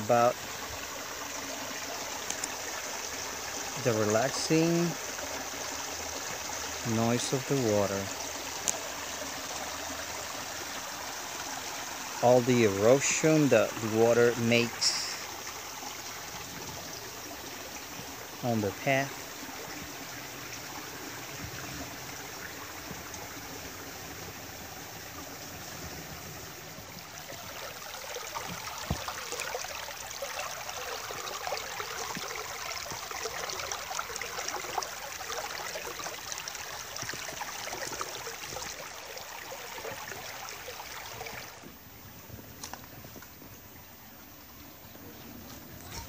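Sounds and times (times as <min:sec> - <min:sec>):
creek water rippling over rocks: 0:00.0 - 0:46.0.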